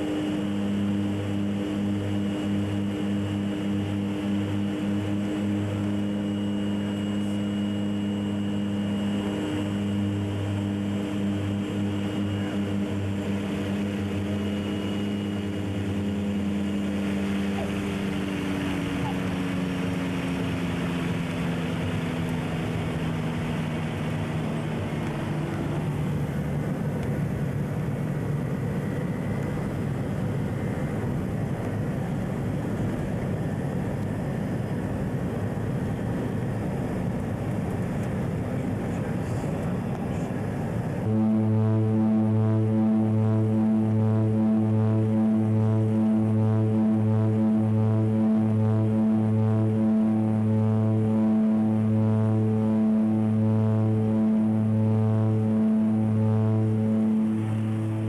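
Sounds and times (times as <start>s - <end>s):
steady rushing noise: 0.0s - 42.4s, 50.1s - 58.0s
propeller aircraft engine drone: 0.0s - 58.0s.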